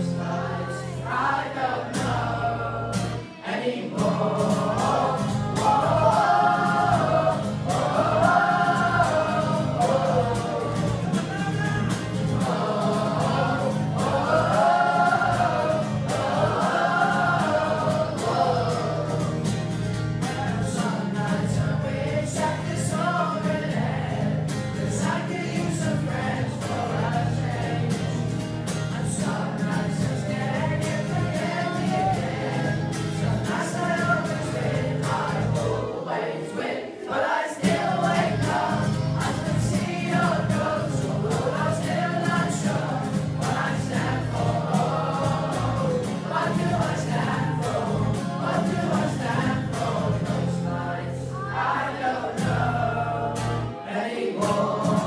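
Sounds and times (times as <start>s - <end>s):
acoustic guitar: 0.0s - 55.0s
young voices singing in unison: 0.0s - 55.0s.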